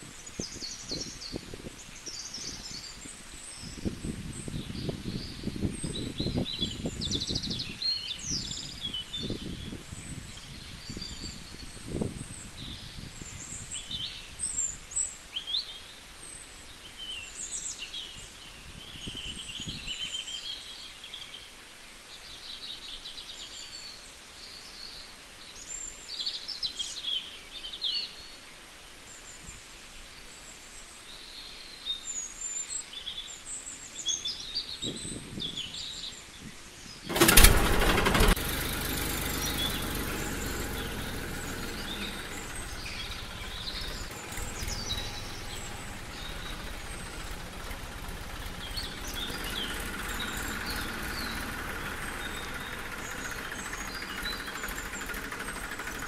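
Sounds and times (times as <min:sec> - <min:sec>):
small birds chirping: 0:00.0 - 0:37.5, 0:38.3 - 0:56.0
light outdoor hiss: 0:00.0 - 0:56.0.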